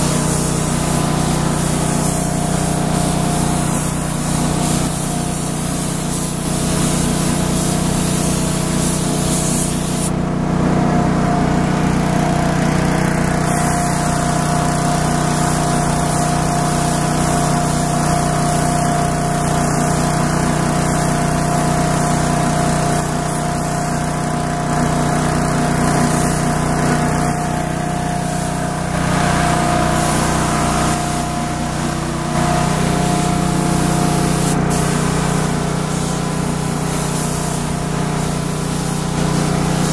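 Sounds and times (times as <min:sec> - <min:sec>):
spray gun hissing: 0:00.0 - 0:10.1, 0:13.3 - 0:39.9.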